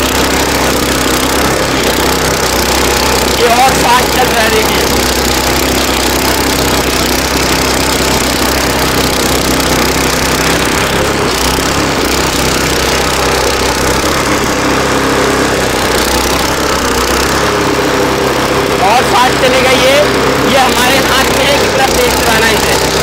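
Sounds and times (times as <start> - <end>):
small tractor engine tilling soil: 0.0 - 23.0.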